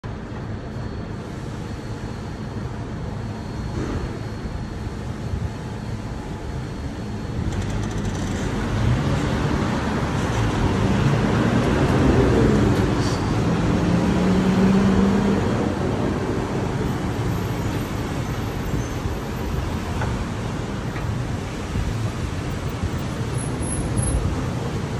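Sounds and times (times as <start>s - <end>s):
rumble of passing vehicles: 0.0s - 24.9s.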